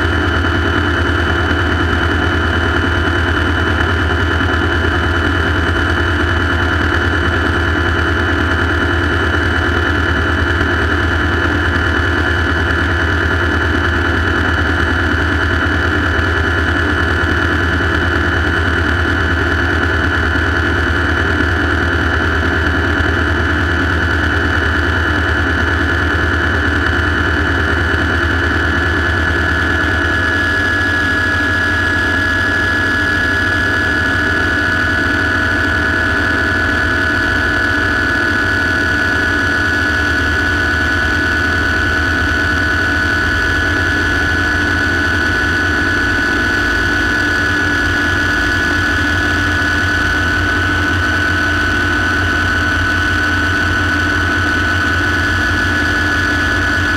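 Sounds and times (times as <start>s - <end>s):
helicopter turbine whine: 0.0s - 56.9s
low rotor drone: 0.0s - 56.9s.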